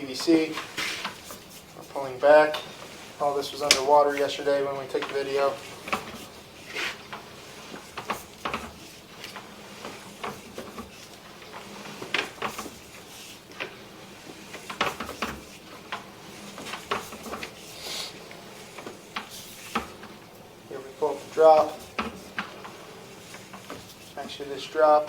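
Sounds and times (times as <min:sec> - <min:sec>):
cable clicking and rubbing in pipe: 0:00.0 - 0:25.0.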